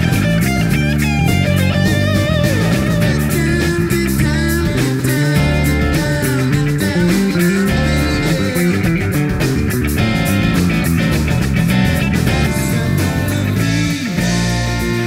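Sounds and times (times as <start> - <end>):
bending electric guitar notes: 0.0 - 15.0
instrumental rock band: 0.0 - 15.0.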